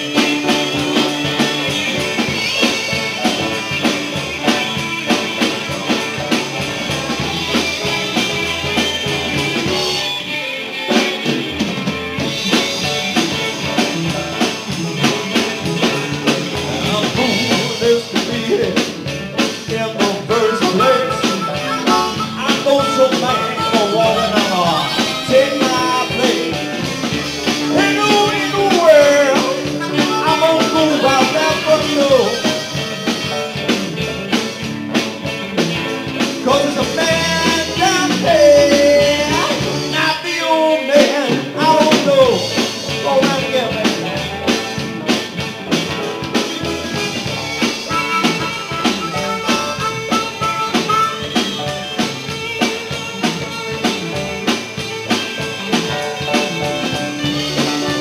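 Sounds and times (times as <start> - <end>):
guitar lead line bending pitch: 0.0 - 19.6, 20.2 - 40.0, 41.6 - 58.0
live rock band playing: 0.0 - 58.0.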